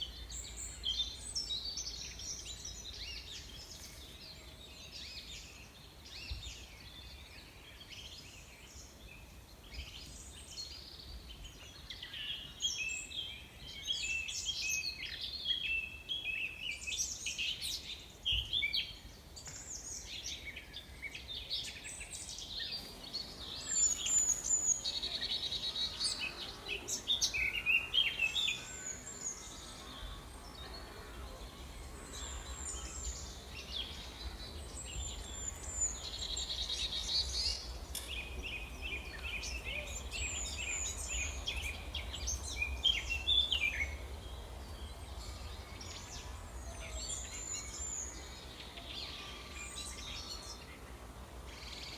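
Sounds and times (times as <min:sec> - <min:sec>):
small birds chirping and twittering: 0:00.0 - 0:51.9.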